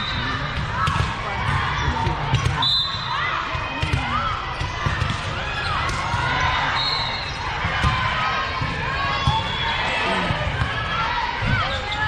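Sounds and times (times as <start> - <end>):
babble of spectators' voices: 0.0 - 12.0
balls bouncing on court floor: 0.2 - 6.5, 7.2 - 12.0.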